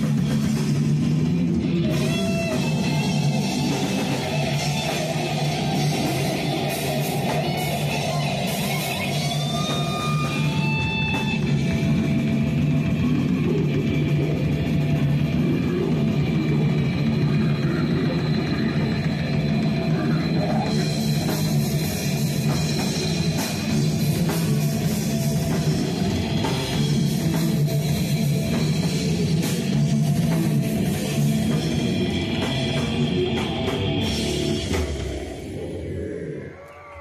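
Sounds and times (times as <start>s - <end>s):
death metal band playing: 0.0s - 37.0s.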